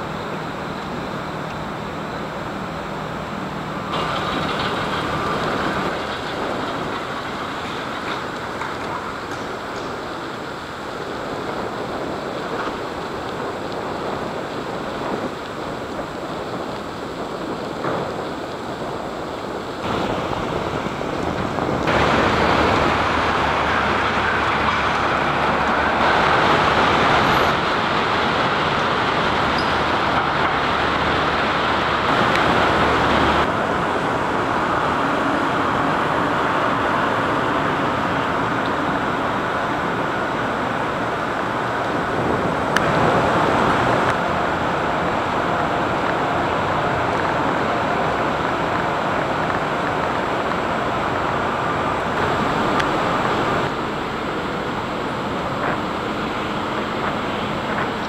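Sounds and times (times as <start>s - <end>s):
city street traffic hum: 0.0s - 58.0s.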